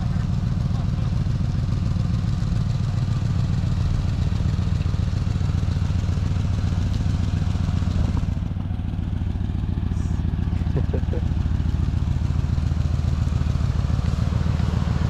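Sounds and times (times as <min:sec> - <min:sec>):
truck engine running at low speed: 0:00.0 - 0:15.0.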